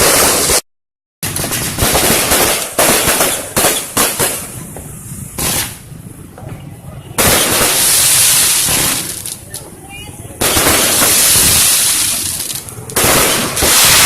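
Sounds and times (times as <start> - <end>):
firecracker bangs: 0.0 - 0.6, 1.2 - 6.6, 7.2 - 9.5, 10.4 - 14.0
fireworks crackling: 0.0 - 0.6, 1.2 - 14.0.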